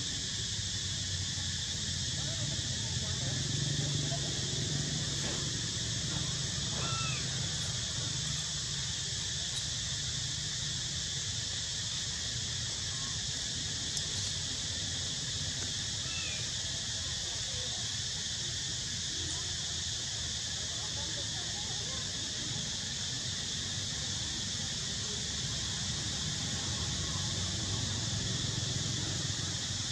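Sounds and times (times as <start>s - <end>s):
outdoor background hiss: 0.0s - 29.9s.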